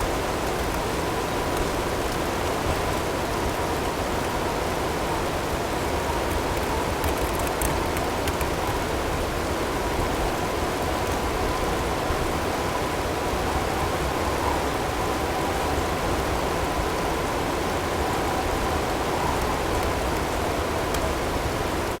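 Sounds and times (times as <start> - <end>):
wind-driven snow and hail: 0.0 - 22.0.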